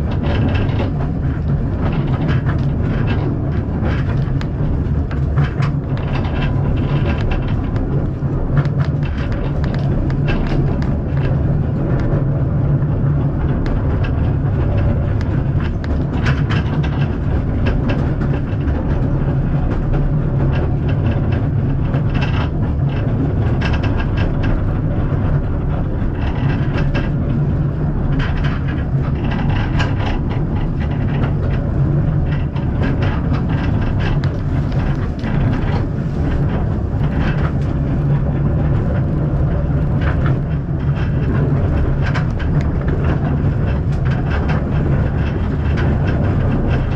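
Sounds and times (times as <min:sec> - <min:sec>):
train carriage rumble: 0:00.0 - 0:46.9
wheels and carriage rattling: 0:00.0 - 0:46.9.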